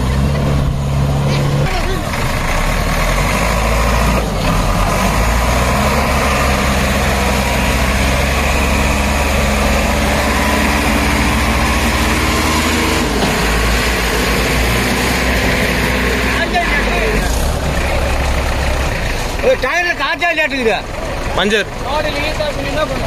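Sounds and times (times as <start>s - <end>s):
diesel engines under heavy load: 0.0s - 23.0s.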